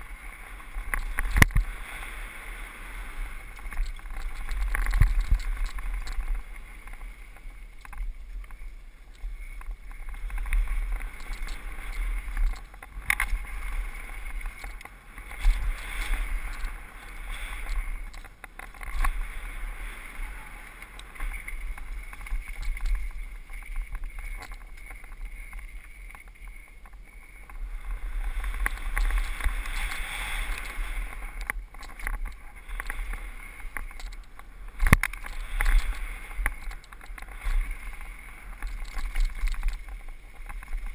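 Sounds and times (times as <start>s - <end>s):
bike rattling: 0.0s - 40.9s
tyres on loose dirt: 0.0s - 40.9s
wind rumble on microphone: 0.0s - 40.9s.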